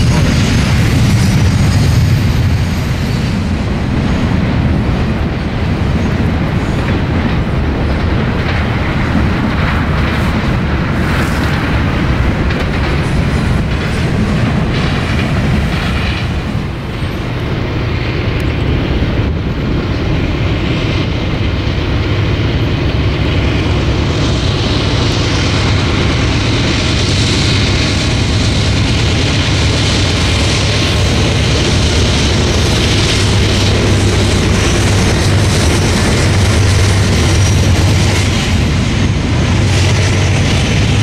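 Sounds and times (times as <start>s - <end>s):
diesel freight train: 0.0s - 41.0s
train wheels clicking on rails: 0.0s - 41.0s.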